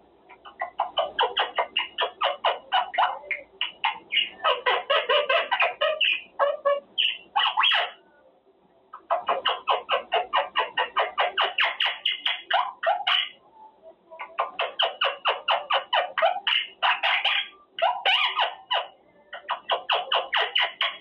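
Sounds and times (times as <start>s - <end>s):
parrot squawking chirps: 0.4s - 8.0s, 8.9s - 13.4s, 14.2s - 21.0s.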